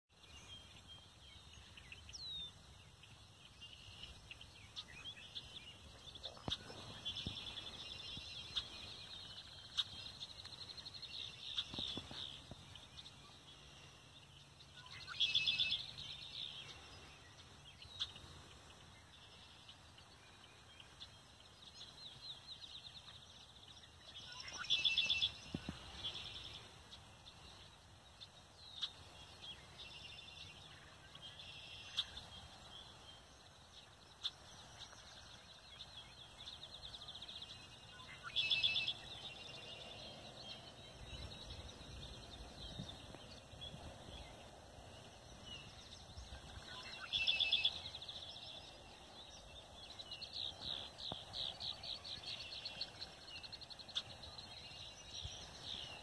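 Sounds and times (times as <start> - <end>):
bird trilled song: 0.1 - 56.0
bird chirps and calls: 3.5 - 18.4, 19.0 - 56.0.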